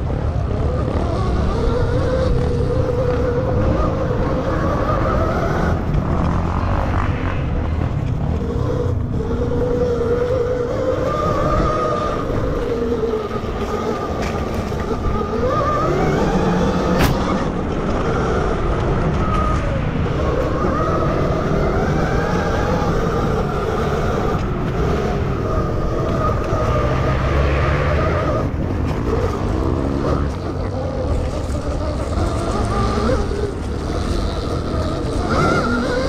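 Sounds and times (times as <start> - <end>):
electric motor whine: 0.0 - 36.0.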